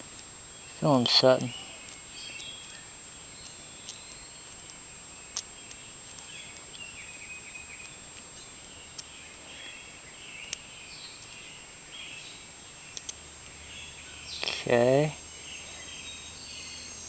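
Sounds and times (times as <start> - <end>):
faint bird chirps: 0.5 - 17.0.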